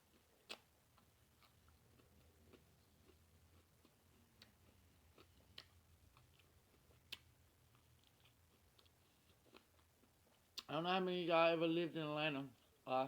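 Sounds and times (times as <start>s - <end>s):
person chewing food: 0.0s - 10.7s, 12.5s - 12.9s.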